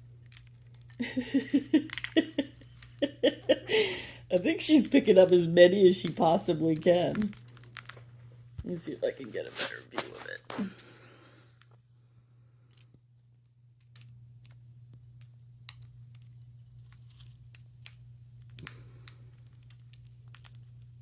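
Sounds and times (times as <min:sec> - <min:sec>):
seed shells clicking and rustling: 0:00.0 - 0:11.0, 0:12.6 - 0:21.0.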